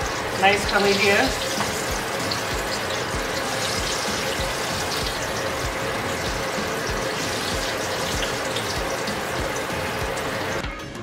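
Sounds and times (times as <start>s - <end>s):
hot oil sizzling: 0.0s - 10.6s.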